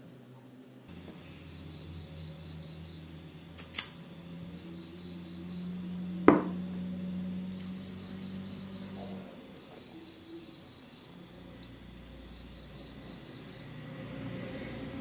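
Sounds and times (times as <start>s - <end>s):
steady low hum: 0.0s - 15.0s
crickets chirping: 0.1s - 15.0s.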